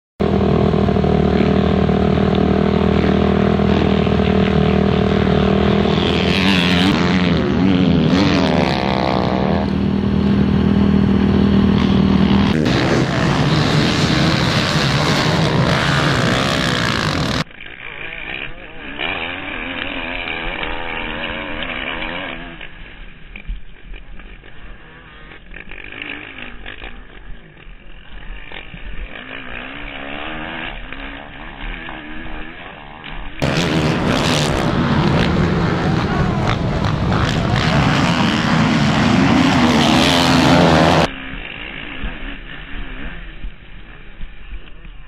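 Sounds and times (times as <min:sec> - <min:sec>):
dirt bike engine revving: 0:00.2 - 0:45.0
dirt bike engines: 0:00.2 - 0:45.0.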